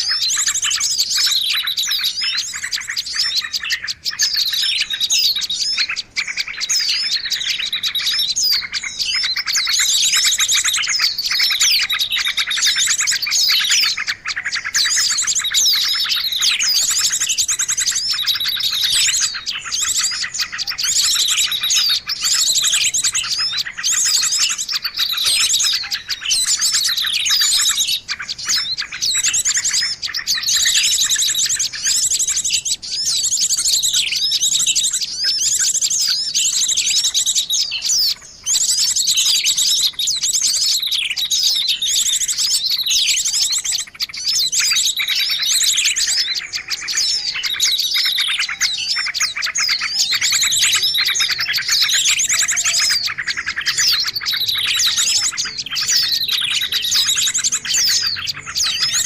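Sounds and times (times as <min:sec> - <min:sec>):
chorus of birds chirping: 0:00.0 - 0:59.0.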